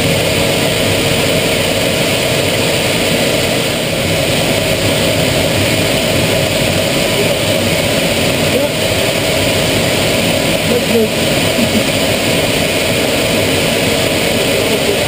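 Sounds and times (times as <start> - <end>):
airflow over canopy: 0.0 - 15.0
jet engine rush in cockpit: 0.0 - 15.0.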